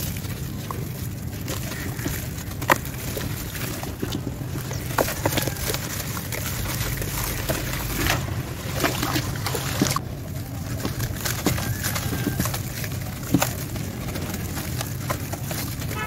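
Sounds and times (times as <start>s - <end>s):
cement chunks crumbling in hands: 0.0s - 16.0s
low rumble: 0.0s - 16.0s.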